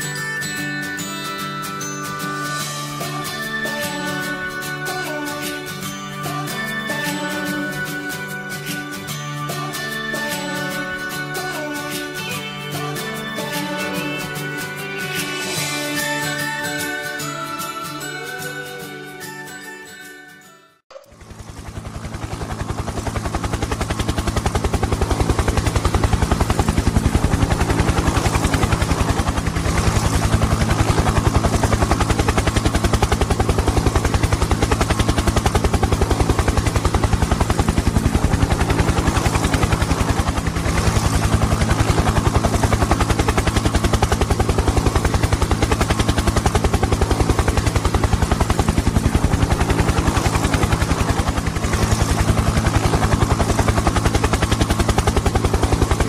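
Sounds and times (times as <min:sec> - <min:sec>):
helicopter rotor chopping: 0:02.4 - 0:17.9, 0:20.9 - 0:56.0.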